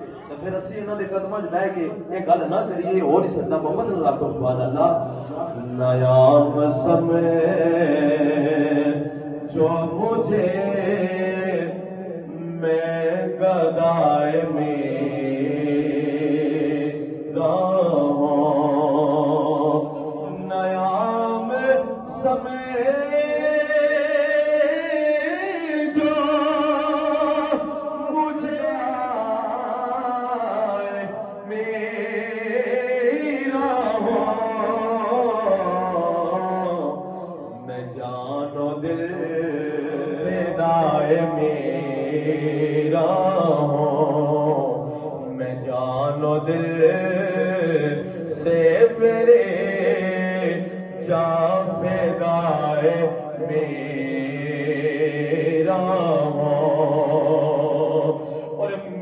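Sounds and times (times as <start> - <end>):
man singing a chant: 0.0 - 59.0.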